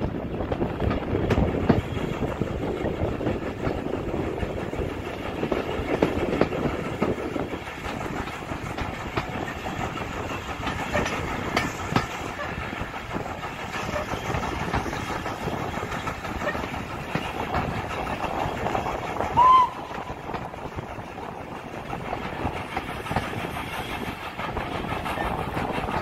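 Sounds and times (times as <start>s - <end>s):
train running noise: 0.0s - 26.0s
wheels clicking over rail joints: 0.0s - 26.0s.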